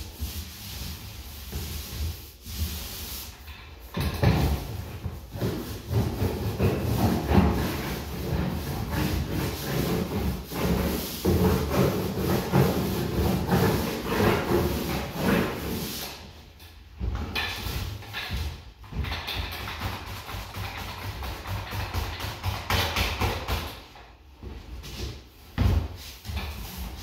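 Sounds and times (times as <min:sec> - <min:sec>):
paint roller rubbing on wall: 0:00.0 - 0:27.0.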